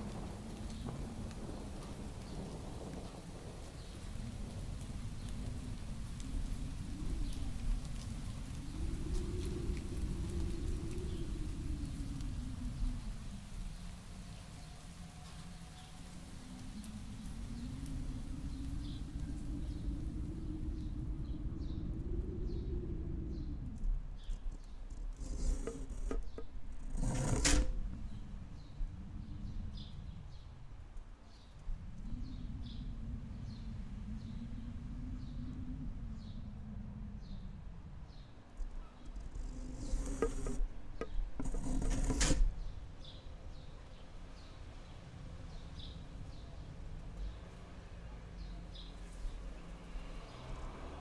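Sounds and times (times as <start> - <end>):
forest backdrop: 0.0 - 51.0.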